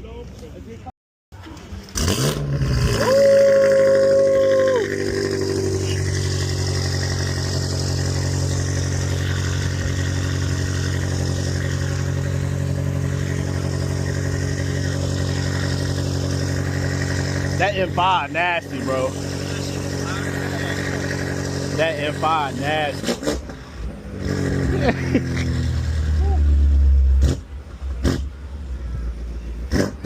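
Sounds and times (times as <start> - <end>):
car engine revving and idling: 1.4 - 30.0.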